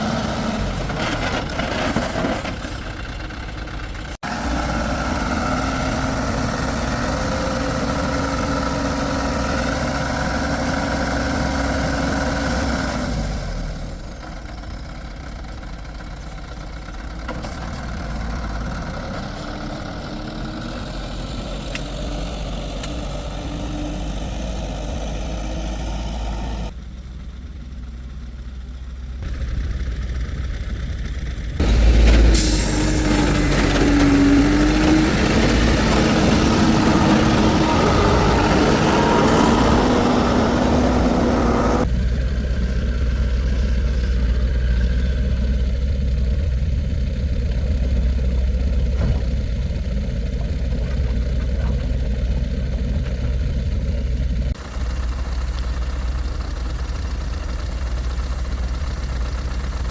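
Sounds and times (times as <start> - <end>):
heavy vehicle engine running: 0.0 - 59.9.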